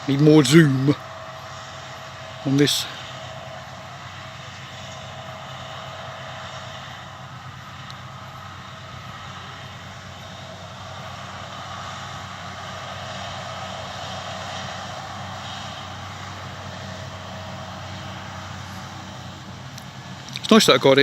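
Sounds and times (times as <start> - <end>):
distant tractor and baler running: 0.0 - 21.0.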